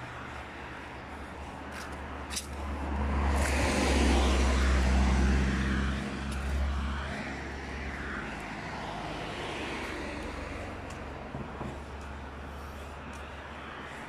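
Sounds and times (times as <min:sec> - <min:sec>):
car passing by: 0:00.0 - 0:14.0.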